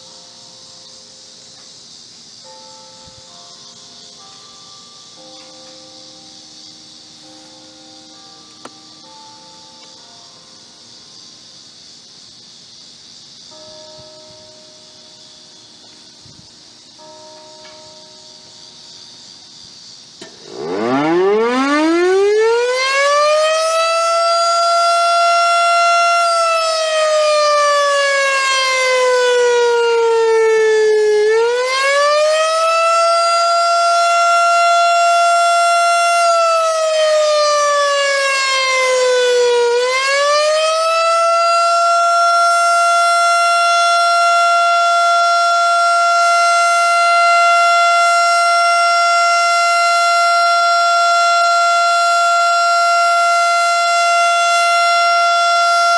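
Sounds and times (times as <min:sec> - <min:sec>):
outdoor warning siren: 0:00.0 - 0:01.2, 0:02.4 - 0:10.7, 0:20.2 - 0:55.9.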